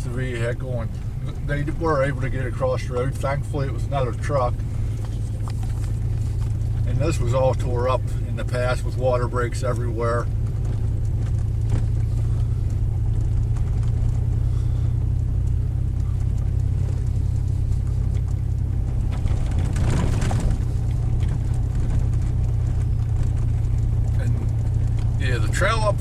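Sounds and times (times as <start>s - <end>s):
vehicle rumbling on rough road: 0.0s - 26.0s.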